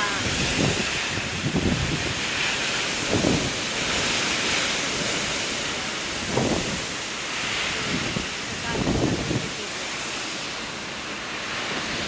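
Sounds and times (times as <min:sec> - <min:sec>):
storm wind and rain: 0:00.0 - 0:12.0
wind buffeting microphone: 0:00.0 - 0:12.0.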